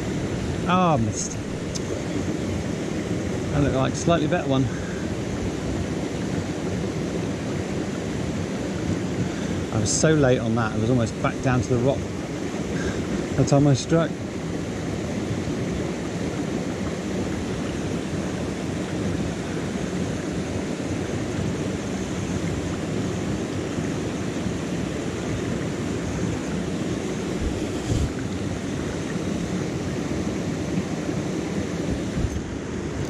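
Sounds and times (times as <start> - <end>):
river rushing over stones: 0.0 - 33.0.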